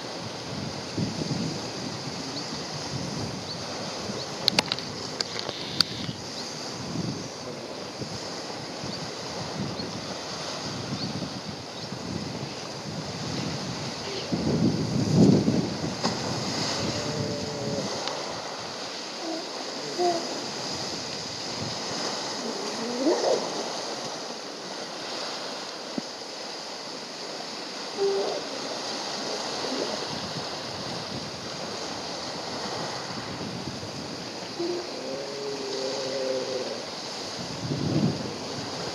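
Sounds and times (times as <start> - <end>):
waves washing on shore: 0.0 - 38.9.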